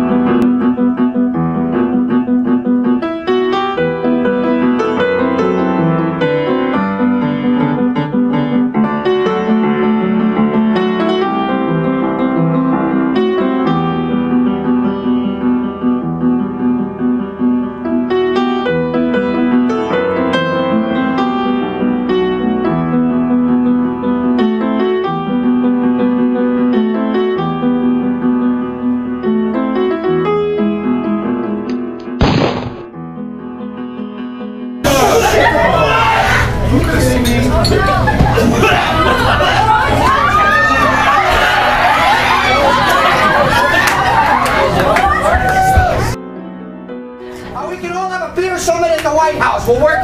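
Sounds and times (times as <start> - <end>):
flowing piano piece: 0.0 - 50.0.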